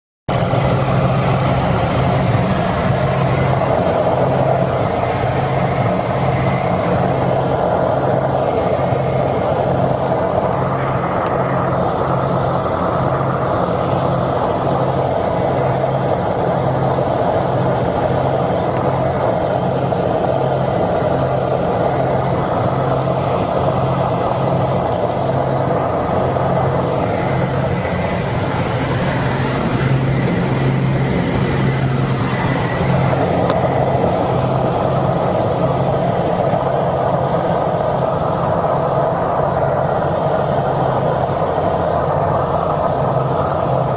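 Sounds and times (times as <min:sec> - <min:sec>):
pulsing low hum: 0:00.3 - 0:43.9
vehicle interior roar: 0:00.3 - 0:43.9.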